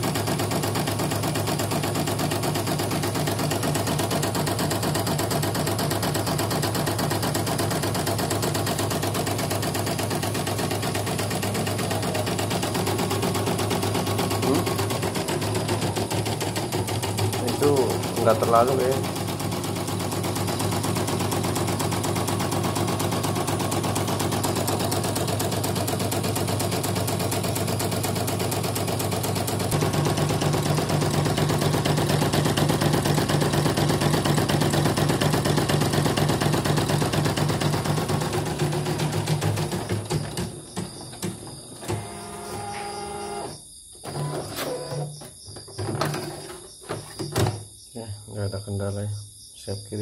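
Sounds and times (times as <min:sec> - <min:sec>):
embroidery machine stitching rattle: 0:00.0 - 0:45.0.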